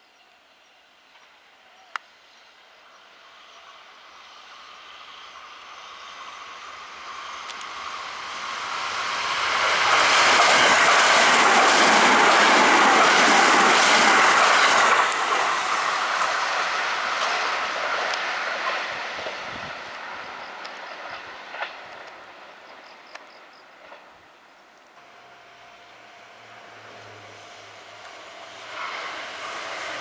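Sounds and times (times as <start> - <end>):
electric train passing at speed: 0.5 - 30.0.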